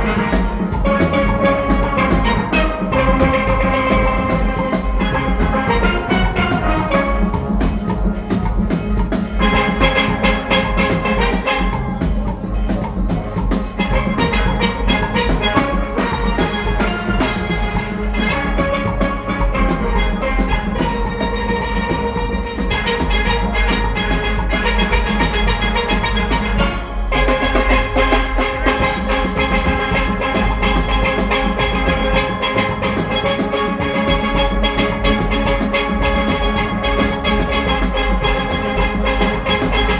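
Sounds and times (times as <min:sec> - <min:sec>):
drum and percussion rhythm: 0:00.0 - 0:39.9
steelpans playing melody: 0:00.0 - 0:39.9.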